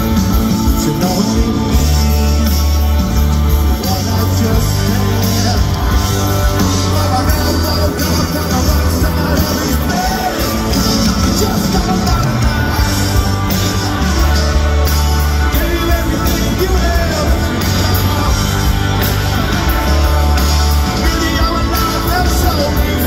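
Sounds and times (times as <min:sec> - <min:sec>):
electric guitar: 0:00.0 - 0:23.0
heavy bass: 0:00.0 - 0:23.0
keyboards: 0:00.0 - 0:23.0
male lead vocal: 0:00.0 - 0:23.0
steady drum beat: 0:00.0 - 0:23.0.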